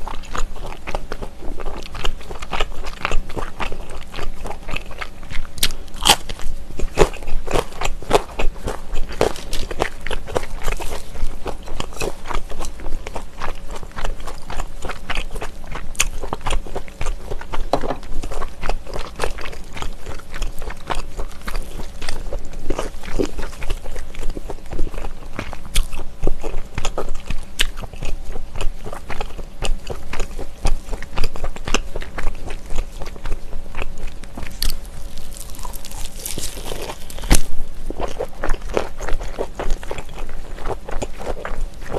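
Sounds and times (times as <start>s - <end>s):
biting and chewing food: 0.0s - 41.9s.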